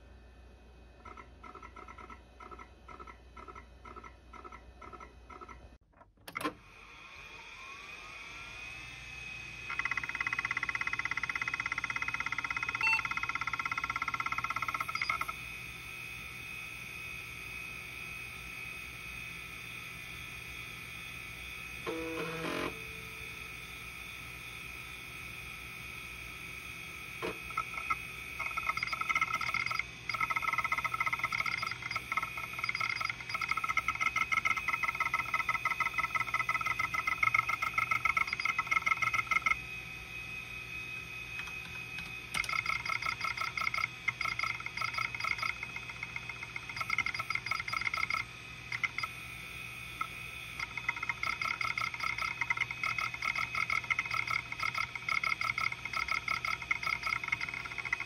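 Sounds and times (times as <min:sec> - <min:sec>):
hard drive spindle hum: 0:00.0 - 0:58.0
hard drive head ticking chatter: 0:01.0 - 0:05.8, 0:09.6 - 0:58.0.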